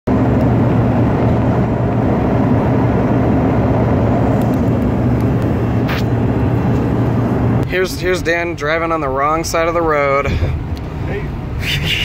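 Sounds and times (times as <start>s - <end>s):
car engine and tyre drone: 0.1s - 12.0s.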